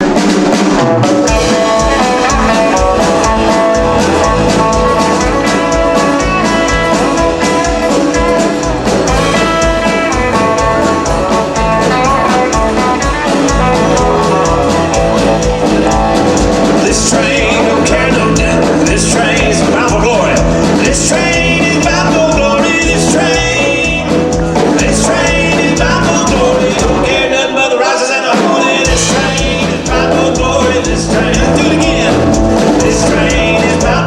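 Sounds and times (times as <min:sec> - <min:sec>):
live band music: 0:00.0 - 0:34.0
voices singing: 0:00.0 - 0:34.0.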